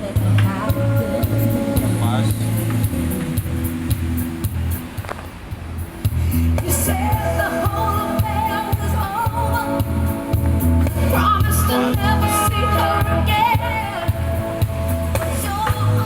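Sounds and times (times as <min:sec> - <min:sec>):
person singing: 0:00.0 - 0:03.7, 0:06.2 - 0:16.0
pulsing bass line: 0:00.0 - 0:16.0.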